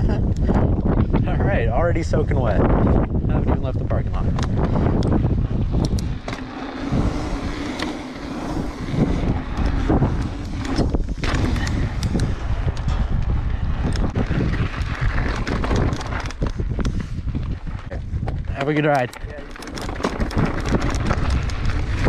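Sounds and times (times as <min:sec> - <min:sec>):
bike tyre noise: 0:00.0 - 0:22.0
wind on microphone: 0:00.0 - 0:22.0
bike knocks and rattles: 0:03.0 - 0:22.0.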